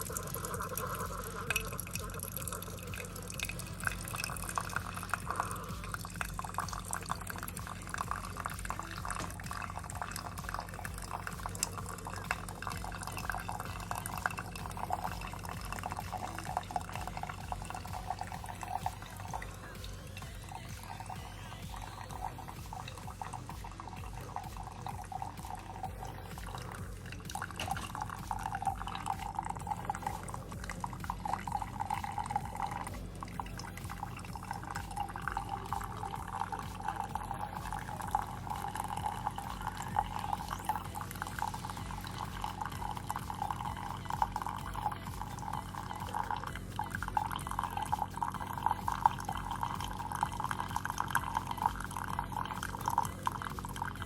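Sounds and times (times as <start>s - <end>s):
coffee dripping into mug: 0.0s - 54.0s
low machine hum: 0.0s - 54.0s.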